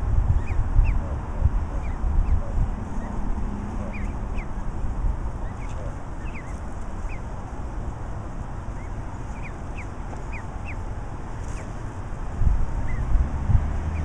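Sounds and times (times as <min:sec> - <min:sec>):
goslings peeping: 0:00.0 - 0:13.2
low rumble: 0:00.0 - 0:14.0.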